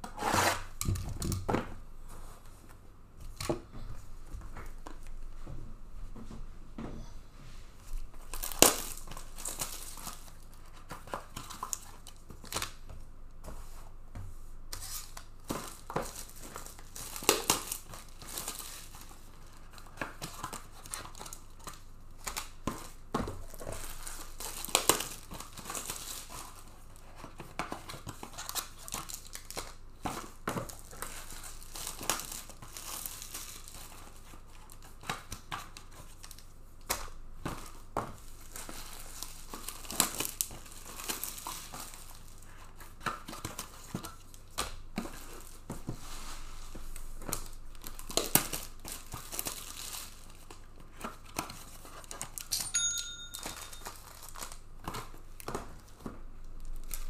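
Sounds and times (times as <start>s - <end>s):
plastic wrapping crinkling and tearing: 8.0s - 13.0s, 14.7s - 52.6s, 53.4s - 57.0s.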